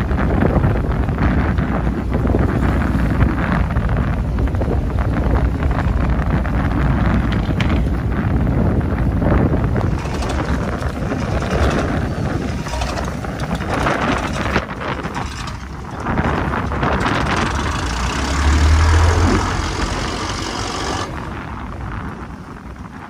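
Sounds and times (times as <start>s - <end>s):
boat engine running: 0.0s - 23.0s
wind buffeting microphone: 0.0s - 23.0s.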